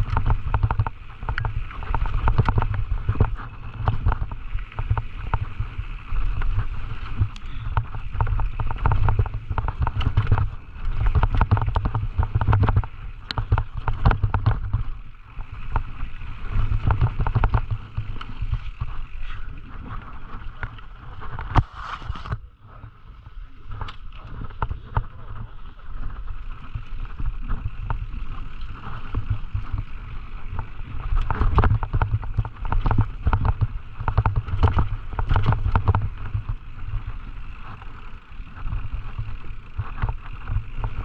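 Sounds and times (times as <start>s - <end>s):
mountain bike rattling: 0.0s - 41.0s
wind rumble on microphone: 0.0s - 41.0s.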